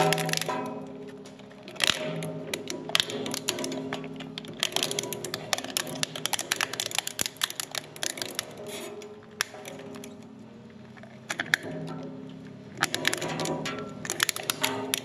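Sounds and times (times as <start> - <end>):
plastic cracking in shredder: 0.0 - 15.0.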